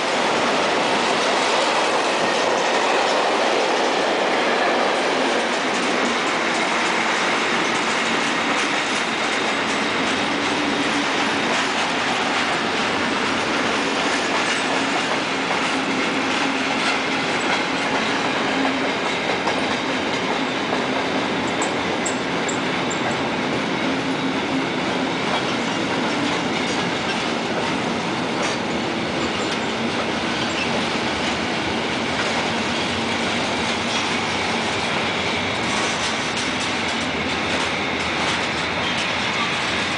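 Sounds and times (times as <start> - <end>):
train wheels running on rails: 0.0 - 39.9.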